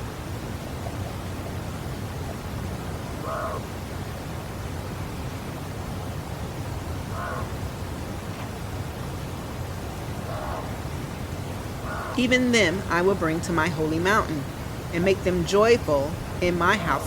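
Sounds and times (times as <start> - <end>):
steady wind: 0.0 - 17.0.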